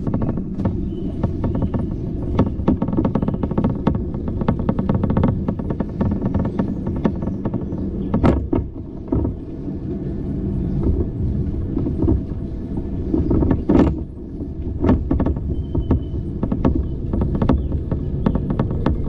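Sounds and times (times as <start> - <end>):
bicycle knocks and rattles: 0.0 - 9.5, 10.8 - 19.0
tyres and wind rumble: 0.0 - 19.0.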